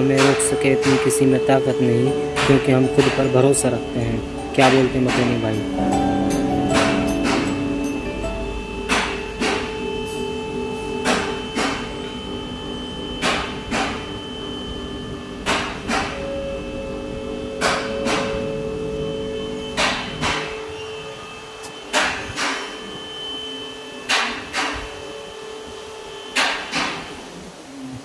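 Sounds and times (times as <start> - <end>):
background music with sustained tones: 0.0 - 27.7.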